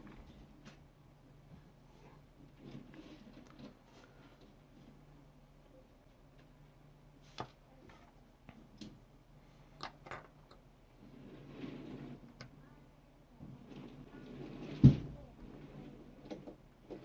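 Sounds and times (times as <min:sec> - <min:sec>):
soft rustle: 0:00.0 - 0:08.2, 0:10.9 - 0:17.0.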